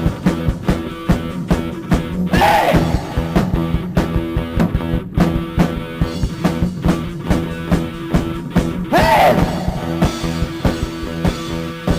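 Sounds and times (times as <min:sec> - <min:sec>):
drum kit beat: 0:00.0 - 0:11.9
rock band playing: 0:00.0 - 0:11.9.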